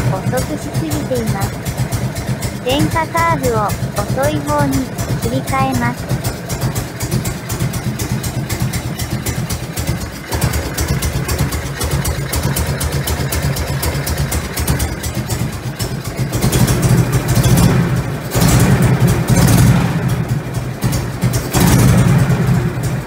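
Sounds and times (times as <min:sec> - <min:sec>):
motorcycle engine idling rhythmically: 0:00.0 - 0:23.0.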